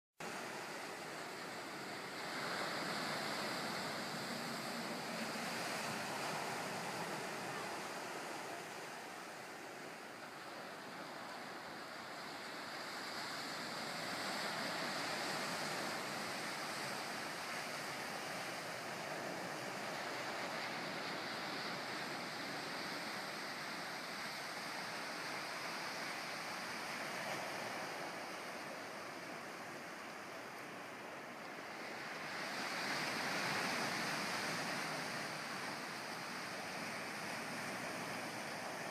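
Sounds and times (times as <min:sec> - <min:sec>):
ocean surf breaking on rocks: 0:00.2 - 0:38.9.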